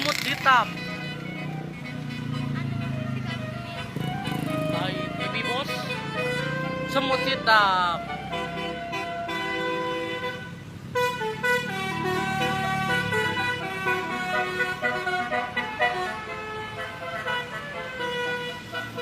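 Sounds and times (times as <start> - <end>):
bus engine running: 0.0 - 19.0
multi-tone bus horn melody: 0.0 - 19.0.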